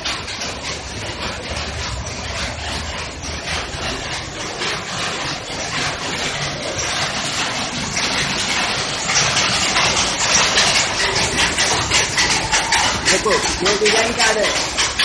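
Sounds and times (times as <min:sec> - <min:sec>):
looms clattering: 0:00.0 - 0:15.0
machine drone: 0:00.0 - 0:15.0.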